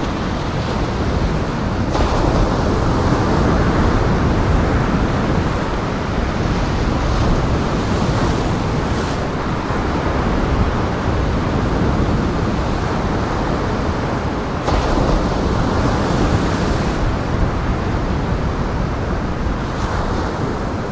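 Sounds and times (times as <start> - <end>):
strong wind: 0.0 - 20.9
waves breaking on shore: 0.0 - 20.9.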